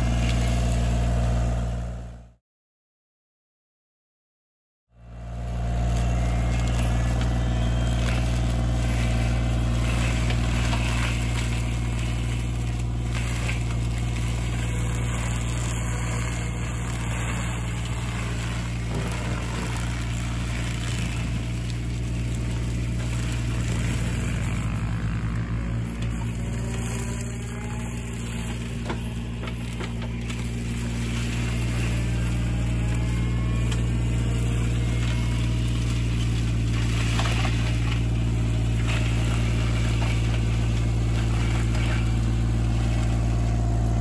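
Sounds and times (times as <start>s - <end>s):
mulcher grinding through brush: 0.0s - 2.2s, 5.0s - 44.0s
diesel excavator engine running: 0.0s - 2.4s, 4.9s - 44.0s.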